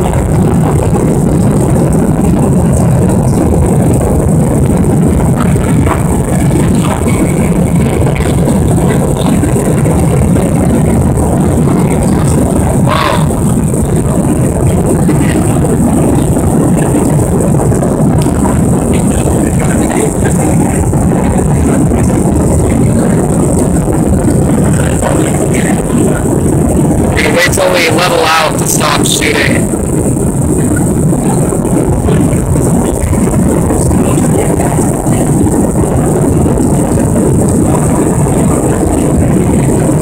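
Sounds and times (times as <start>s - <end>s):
jet engine roar in cabin: 0.0s - 40.0s.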